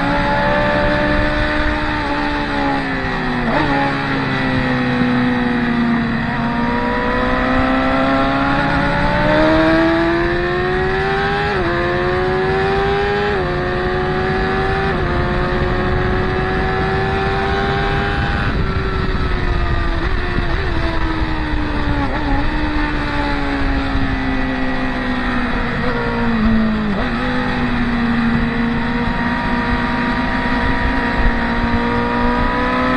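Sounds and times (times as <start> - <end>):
sport motorcycle engine: 0.0 - 32.9.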